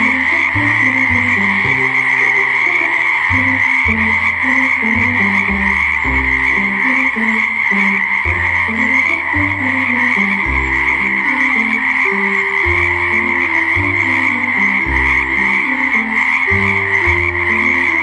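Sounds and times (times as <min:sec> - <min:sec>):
background music low melody: 0:00.0 - 0:18.0
frogs trilling: 0:00.0 - 0:18.0.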